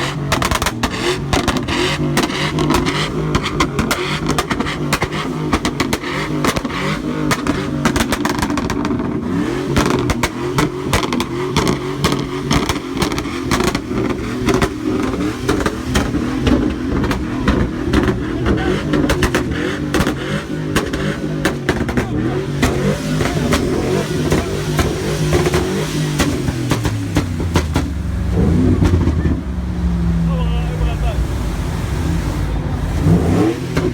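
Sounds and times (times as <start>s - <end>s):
exhaust pops and bangs: 0.0s - 30.3s, 30.9s - 33.9s
truck engine revving: 0.0s - 33.9s.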